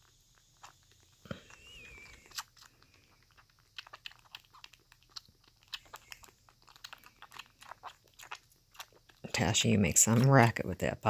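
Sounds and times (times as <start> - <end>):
kitten slurping from bottle: 0.0 - 10.5.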